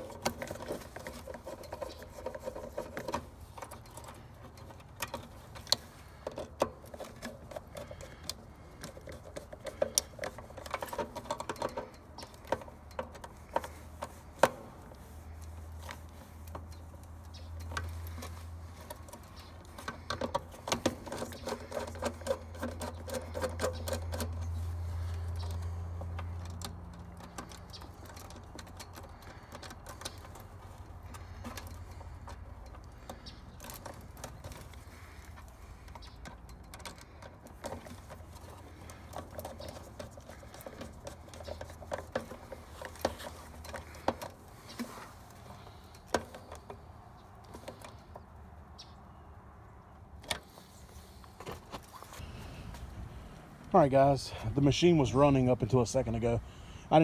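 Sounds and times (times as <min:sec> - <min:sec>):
small clicks of wire terminals: 0:00.0 - 0:49.0.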